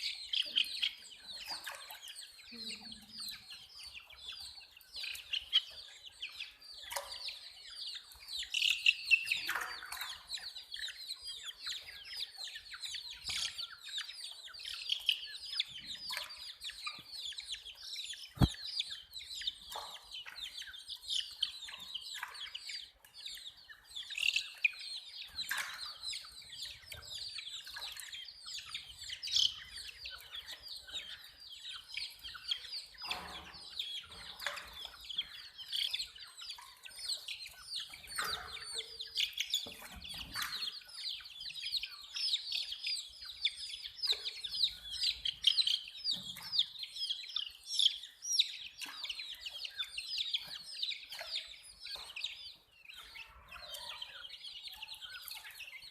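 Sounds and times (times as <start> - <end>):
baby chicks peeping: 0.0 - 55.9.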